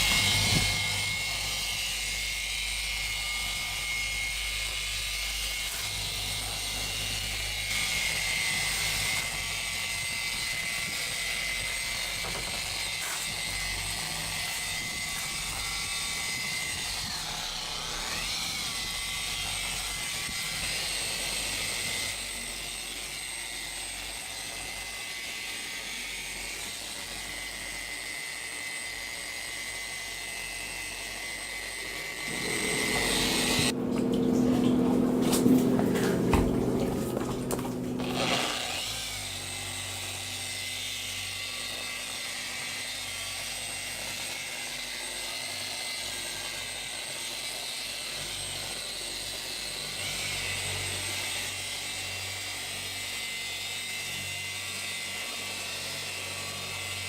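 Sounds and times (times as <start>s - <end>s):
polisher whining: 0.0s - 57.0s.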